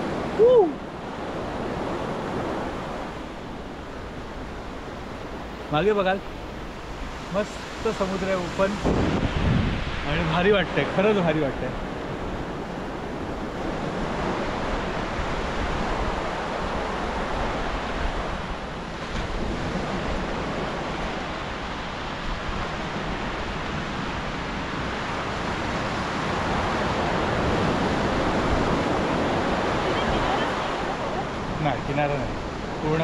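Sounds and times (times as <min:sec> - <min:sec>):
surf breaking on beach: 0:00.0 - 0:33.0
wind buffeting microphone: 0:06.3 - 0:33.0.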